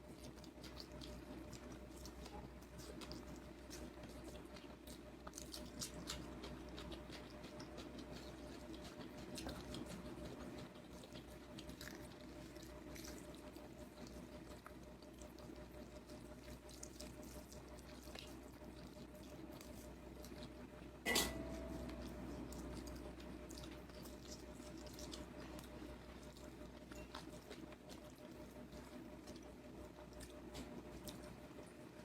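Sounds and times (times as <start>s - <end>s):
low steady hum: 0.0s - 32.0s
wet chewing smacks: 0.0s - 32.0s.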